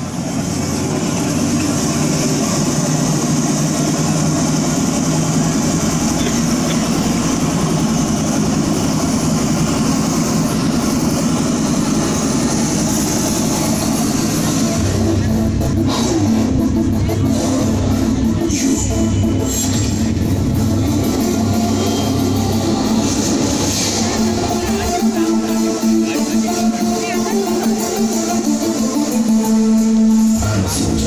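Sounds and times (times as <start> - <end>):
loud engine-like drone: 0.0 - 31.0.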